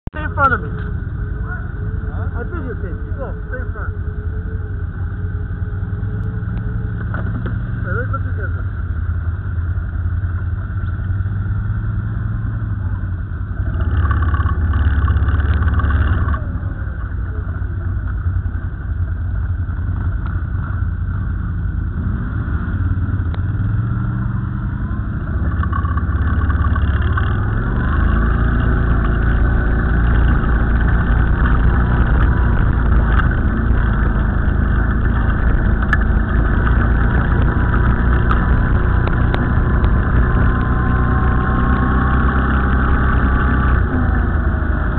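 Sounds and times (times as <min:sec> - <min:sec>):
atv engines accelerating: 0:00.0 - 0:44.9.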